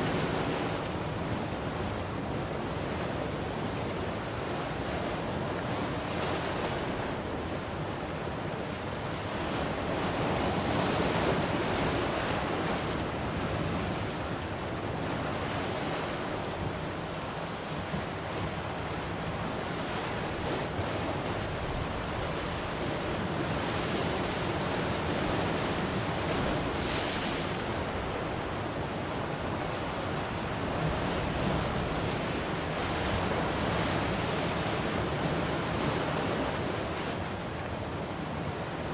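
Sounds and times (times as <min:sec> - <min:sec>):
ocean surf washing ashore: 0:00.0 - 0:38.9.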